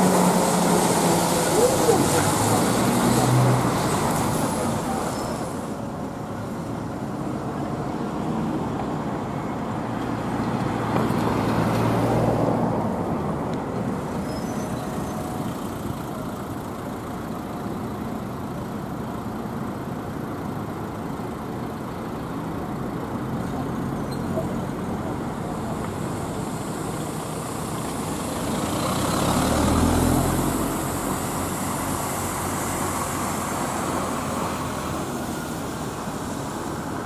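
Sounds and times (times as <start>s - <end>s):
bus engine drone: 0.0s - 37.0s
bus passing: 0.0s - 37.0s.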